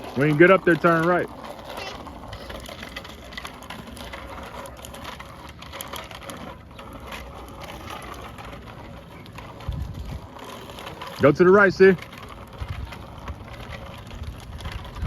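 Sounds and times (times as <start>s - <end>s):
bicycle freewheel ticking: 0.0s - 15.0s
tyre and wind noise: 0.0s - 15.0s.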